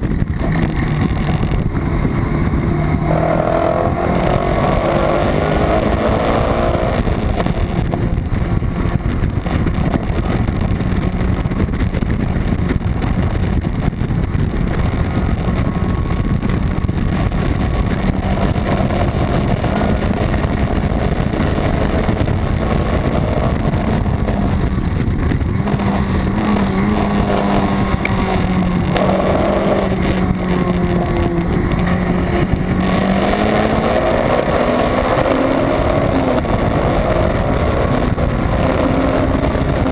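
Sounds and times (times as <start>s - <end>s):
race car engine at high revs: 0.0s - 39.9s
wind and road noise: 0.0s - 39.9s.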